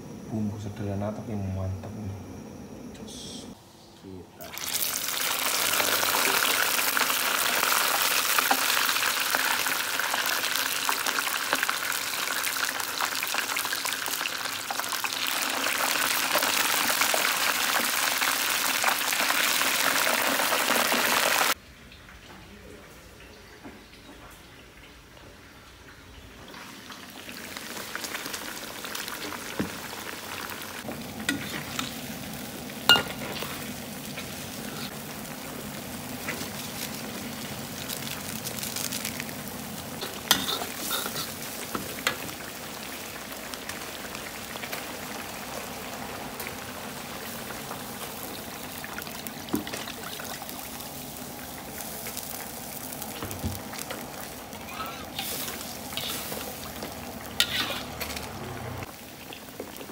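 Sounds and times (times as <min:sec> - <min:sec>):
fish sizzling in hot oil: 0:04.5 - 0:21.6, 0:26.5 - 0:59.9.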